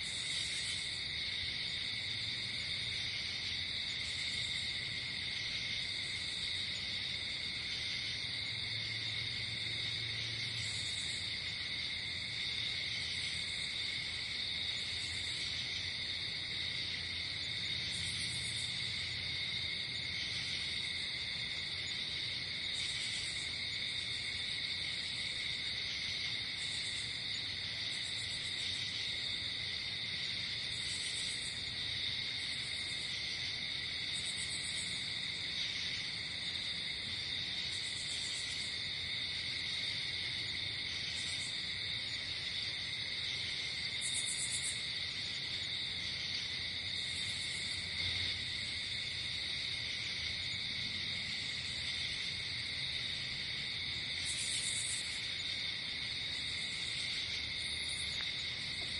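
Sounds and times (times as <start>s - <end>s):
crickets trilling: 0.0s - 58.9s.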